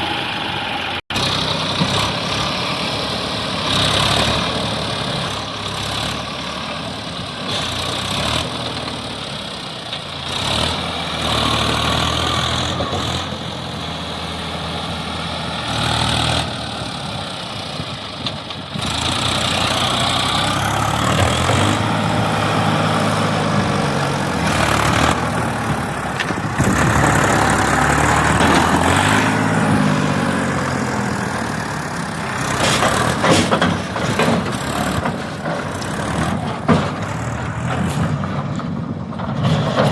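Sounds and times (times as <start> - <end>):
heavy vehicle engine revving: 0.0 - 39.9.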